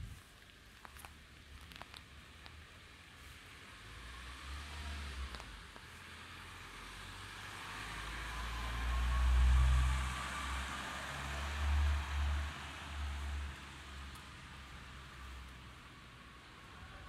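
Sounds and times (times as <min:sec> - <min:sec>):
vehicle passing on wet street: 0:00.0 - 0:17.0.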